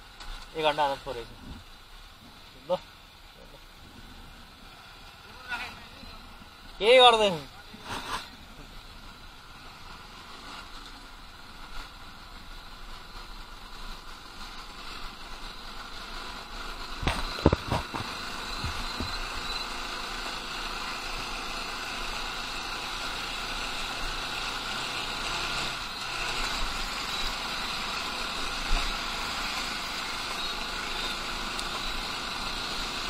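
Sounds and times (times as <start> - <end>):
road and wind noise: 0.0 - 33.0
motorcycle engine running: 1.3 - 33.0.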